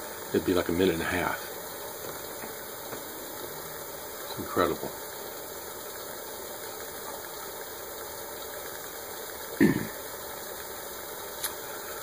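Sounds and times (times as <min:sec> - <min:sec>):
alcohol stove hissing: 0:00.0 - 0:12.0.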